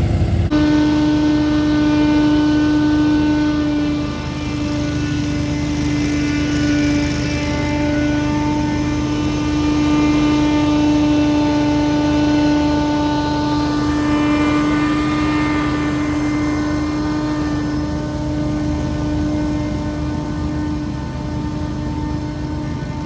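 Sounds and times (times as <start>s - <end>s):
leaf blower droning: 0.0s - 23.0s.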